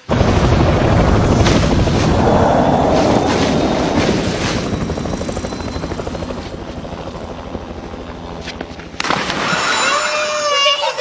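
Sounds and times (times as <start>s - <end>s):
helicopter rotor chopping: 0.0s - 9.2s.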